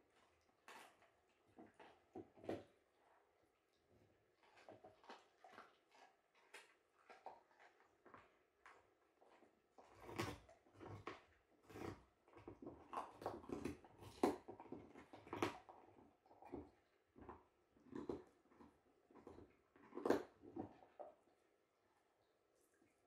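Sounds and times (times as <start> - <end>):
dogs gnawing bones: 0.0 - 3.2, 4.2 - 21.4.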